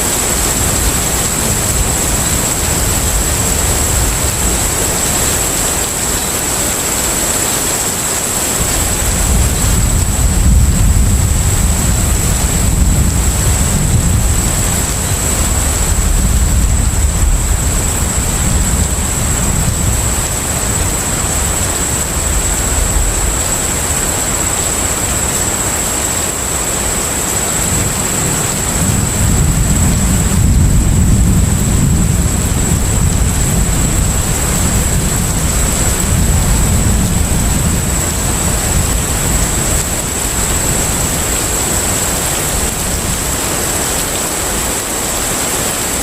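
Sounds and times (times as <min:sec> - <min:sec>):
ship engine rumble: 0:00.0 - 0:46.0
wind: 0:00.0 - 0:46.0.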